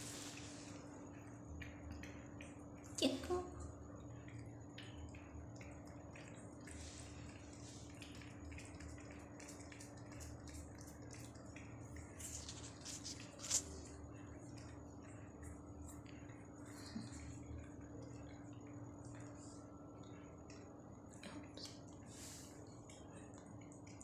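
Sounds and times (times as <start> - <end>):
cat licking with wet clicks: 0.3 - 24.0.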